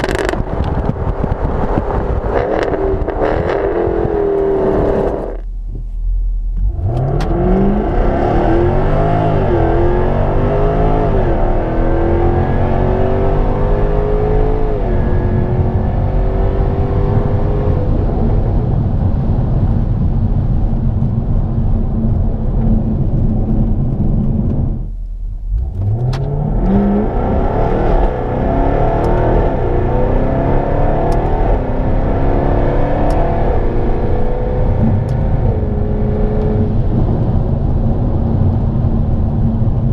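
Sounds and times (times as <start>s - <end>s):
car engine accelerating hard: 0.0s - 5.5s, 6.5s - 39.9s.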